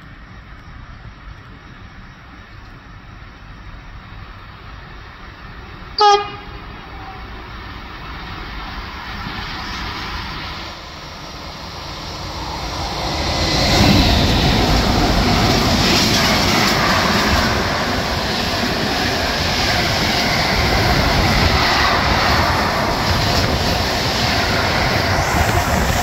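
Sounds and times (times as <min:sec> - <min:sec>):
freight train passing: 0:00.0 - 0:26.0
train wheels on rails: 0:00.0 - 0:26.0.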